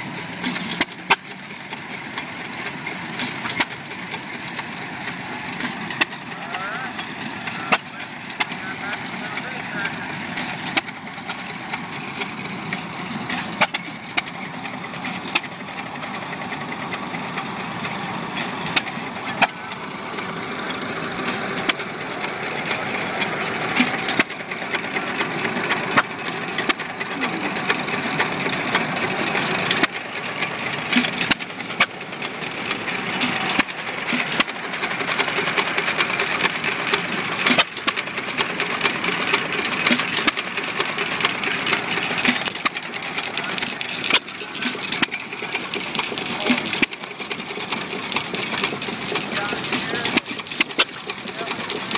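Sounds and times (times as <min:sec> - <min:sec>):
engine knocks: 0:00.0 - 0:51.9
small gasoline engine clattering: 0:00.0 - 0:51.9.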